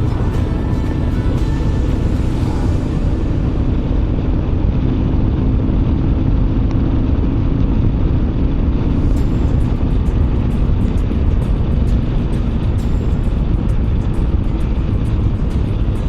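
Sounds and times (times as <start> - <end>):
motorcycle engine: 0.0 - 16.0
road noise: 0.0 - 16.0
wind rushing on microphone: 0.0 - 16.0.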